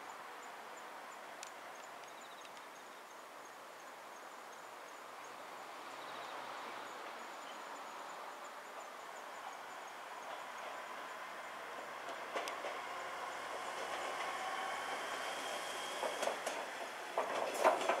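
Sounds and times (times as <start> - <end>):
high insect chirp: 0.0 - 17.1.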